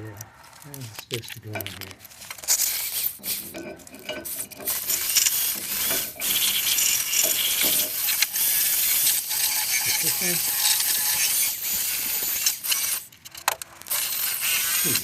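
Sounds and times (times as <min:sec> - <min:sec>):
metal parts clinking: 0:00.5 - 0:15.0
ratchet wrench clicking: 0:01.0 - 0:15.0.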